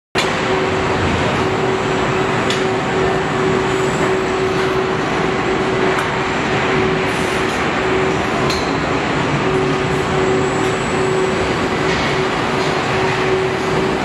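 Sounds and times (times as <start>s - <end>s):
assembly line machinery hum: 0.2s - 14.0s.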